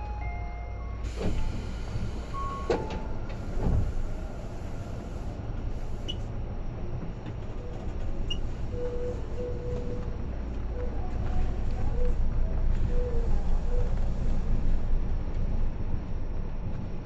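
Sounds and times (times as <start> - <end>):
train wheels rumbling on rail: 0.7 - 17.0.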